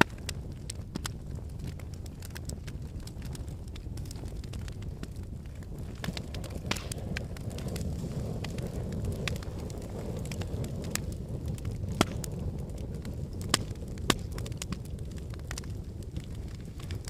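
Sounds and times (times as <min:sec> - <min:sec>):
fire crackling in fireplace: 0:00.0 - 0:17.0
sharp pops of fire: 0:00.0 - 0:17.0.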